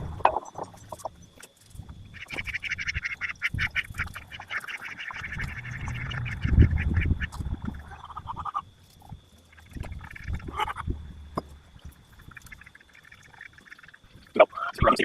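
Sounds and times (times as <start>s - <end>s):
poultry calling: 2.1s - 8.7s, 9.5s - 15.0s.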